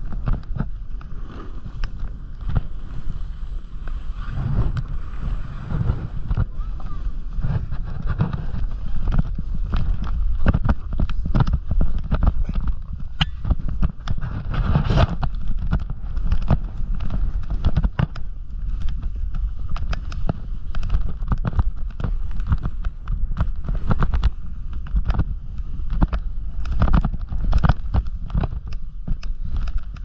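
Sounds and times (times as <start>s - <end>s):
snowboard chattering over bumps: 0.0s - 30.0s
wind rumble on microphone: 0.0s - 30.0s.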